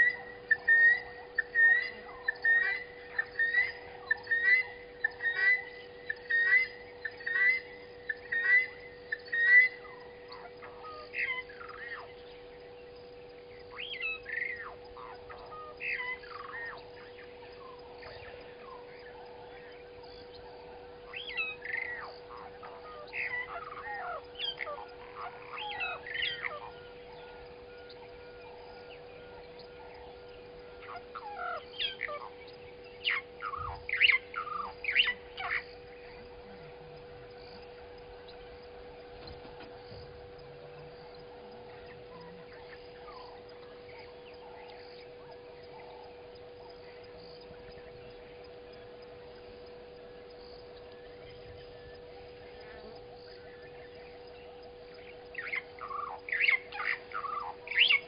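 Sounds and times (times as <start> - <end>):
birds chirping and squawking: 0.0 - 58.0
faint hum: 0.0 - 58.0.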